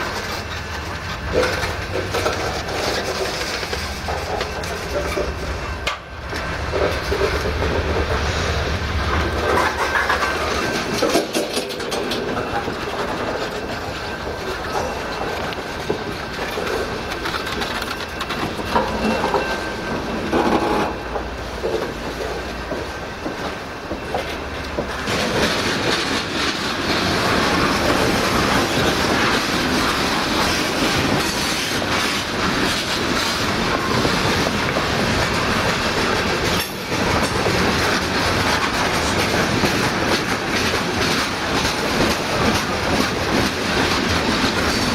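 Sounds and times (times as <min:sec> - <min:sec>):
train wheels clattering over rail joints: 0:00.0 - 0:44.9.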